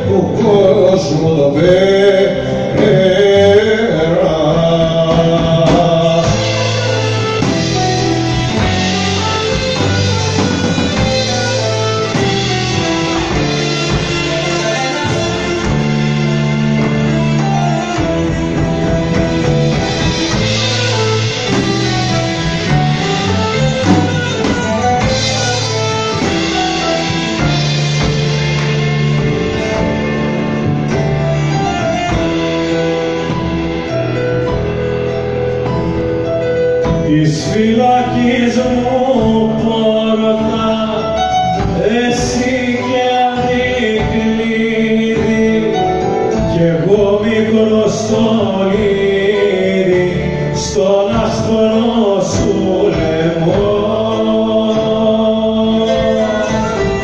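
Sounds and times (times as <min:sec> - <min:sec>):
man singing: 0:00.0 - 0:28.1, 0:36.7 - 0:57.0
live band playing instrumental: 0:00.0 - 0:57.0.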